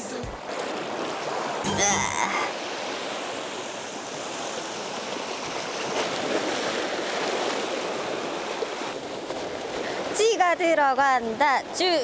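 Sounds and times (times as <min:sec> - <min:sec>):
waves breaking over rocks: 0:00.0 - 0:12.0.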